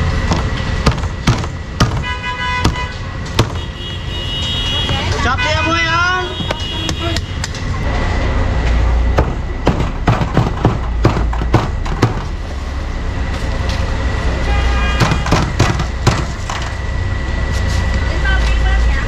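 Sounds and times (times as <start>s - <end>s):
low hum of street traffic: 0.0s - 19.0s.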